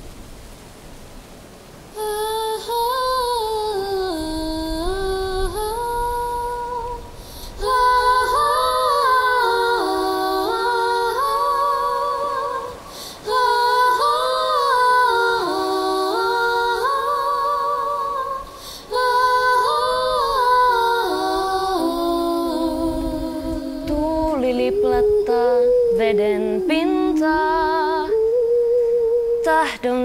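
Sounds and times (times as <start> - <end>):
second voice singing harmony: 2.0 - 30.0
woman singing long notes: 2.0 - 30.0.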